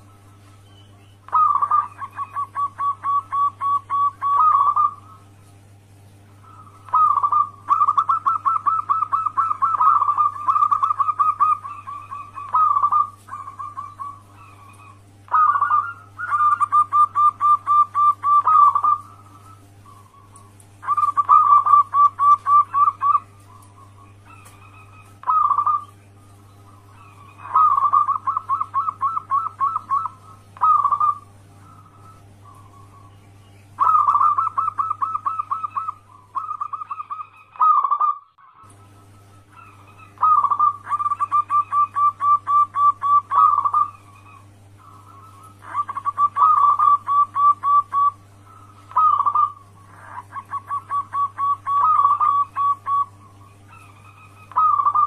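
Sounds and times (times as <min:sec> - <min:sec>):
dove cooing: 0:00.0 - 0:55.0
steady low hum: 0:00.0 - 0:55.0.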